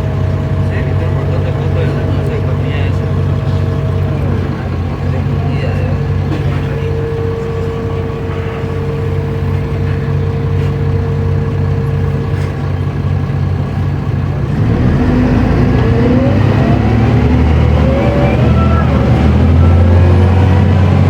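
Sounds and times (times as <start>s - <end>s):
bus diesel engine with whine: 0.0s - 21.0s.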